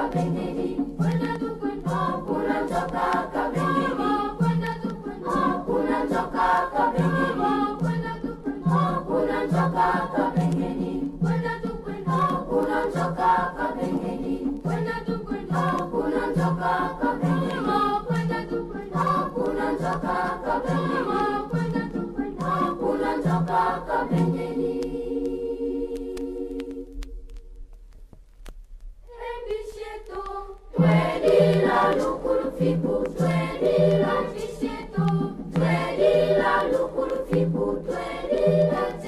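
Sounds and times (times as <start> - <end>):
choir singing over a beat: 0.0 - 27.4, 29.1 - 39.0.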